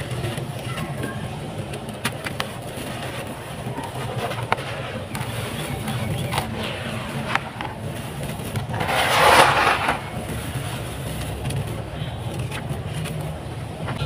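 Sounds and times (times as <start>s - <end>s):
dry dirt crumbling and pouring: 1.9s - 13.4s.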